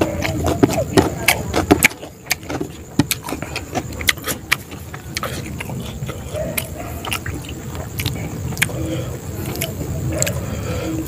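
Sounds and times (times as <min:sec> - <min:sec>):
mouth chewing wetly: 0:00.0 - 0:11.0.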